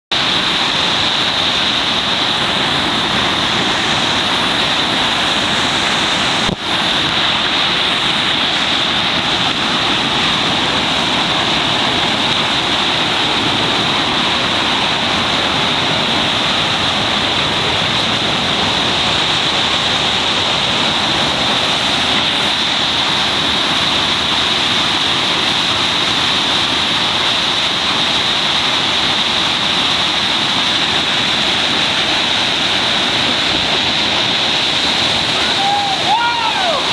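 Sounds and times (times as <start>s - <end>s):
rushing whitewater: 0.0s - 36.9s.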